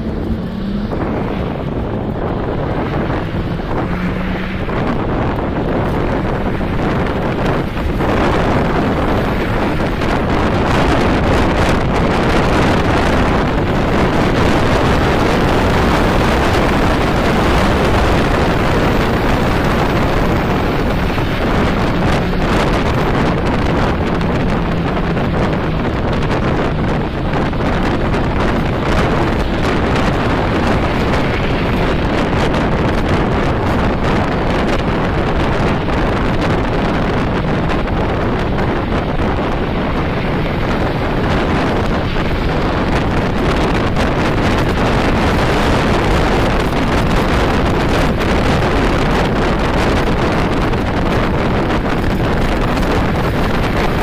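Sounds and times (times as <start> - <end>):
highway traffic noise: 0.0 - 54.0
wind buffeting microphone: 0.0 - 54.0.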